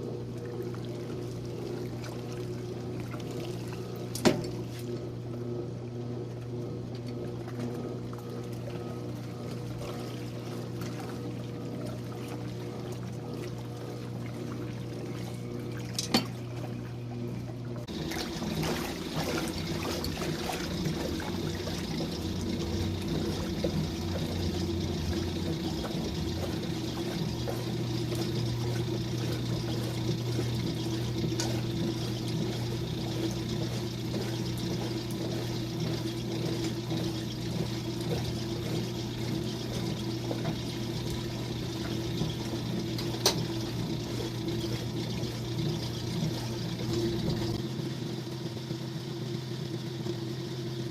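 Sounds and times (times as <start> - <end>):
water pouring and sloshing: 0.0 - 47.7
washing machine motor hum: 0.0 - 50.9.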